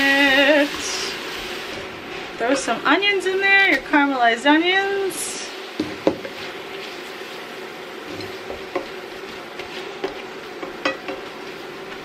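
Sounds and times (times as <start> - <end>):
sauce sizzling and bubbling: 0.0 - 12.0.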